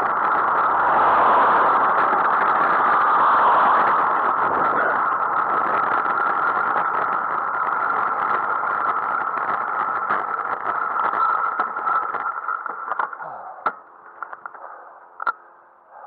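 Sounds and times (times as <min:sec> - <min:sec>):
wind and road rush: 0:00.0 - 0:16.0.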